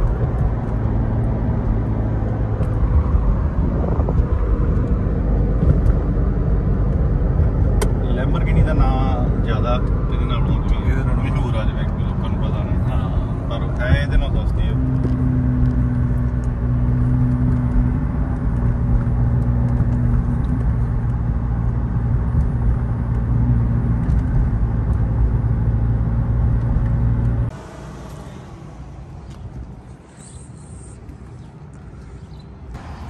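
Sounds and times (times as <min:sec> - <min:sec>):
car engine droning in cabin: 0:00.0 - 0:33.0
outdoor background: 0:00.0 - 0:33.0.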